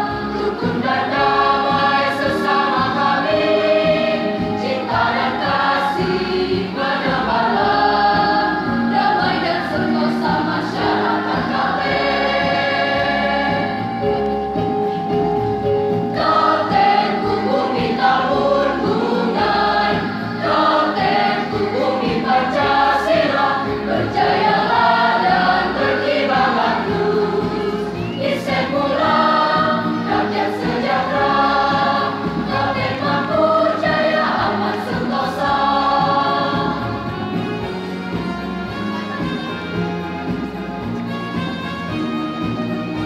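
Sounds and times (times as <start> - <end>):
choir singing: 0.0 - 38.3.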